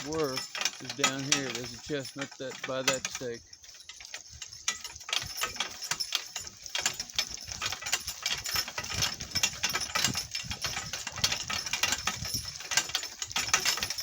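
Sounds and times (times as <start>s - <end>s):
cart rattling over rough ground: 0.0s - 14.0s.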